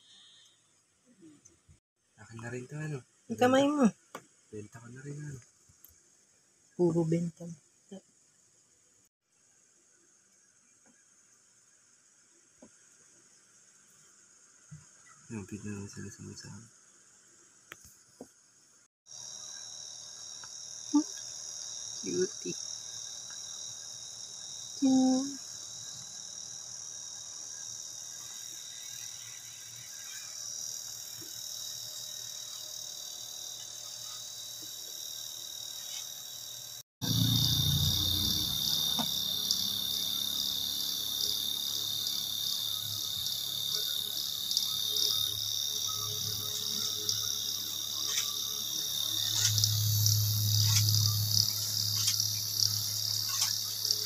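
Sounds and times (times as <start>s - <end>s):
crickets chirping: 0.0s - 1.5s, 2.2s - 54.0s.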